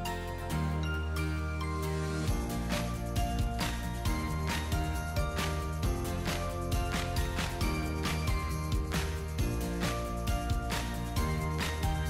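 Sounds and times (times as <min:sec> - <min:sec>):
instrumental music with steady beat: 0:01.8 - 0:12.0.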